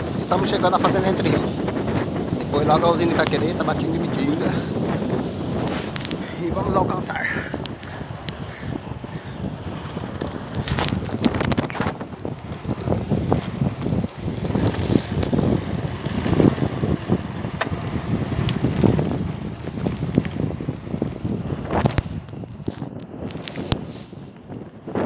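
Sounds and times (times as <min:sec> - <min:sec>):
bike frame rattling: 0:00.0 - 0:25.0
bike tyres rumbling on dirt: 0:00.0 - 0:25.0
wind buffeting microphone: 0:00.0 - 0:25.0.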